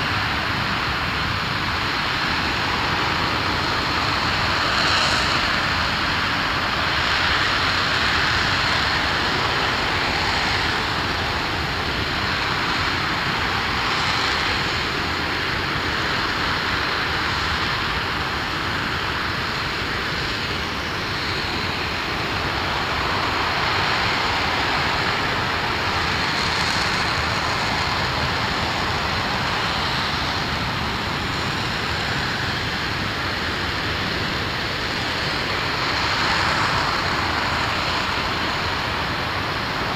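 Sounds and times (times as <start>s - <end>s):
rocket engine roaring: 0.0s - 39.9s.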